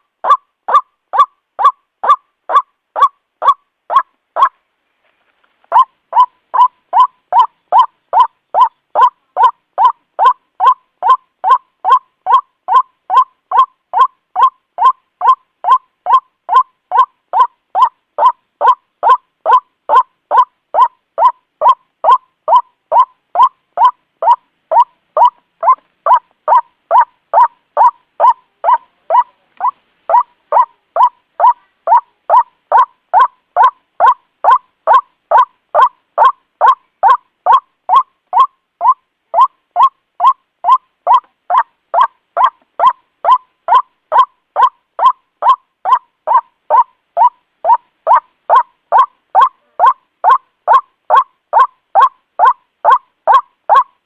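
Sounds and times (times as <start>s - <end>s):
white-breasted waterhen calling: 0.0s - 4.6s, 5.7s - 54.0s.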